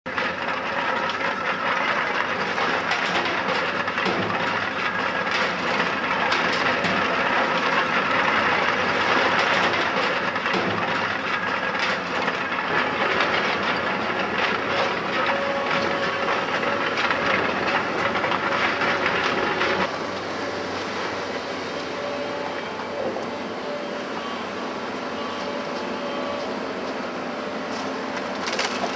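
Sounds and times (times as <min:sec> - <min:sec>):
demolition machinery clattering: 0:00.1 - 0:28.9.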